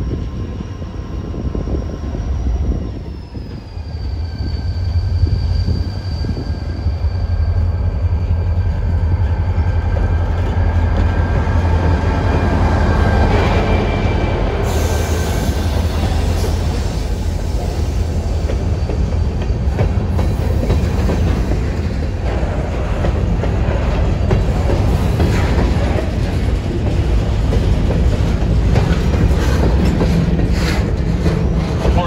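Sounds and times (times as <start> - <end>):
steel wheels rumbling on rail: 0.0 - 32.0.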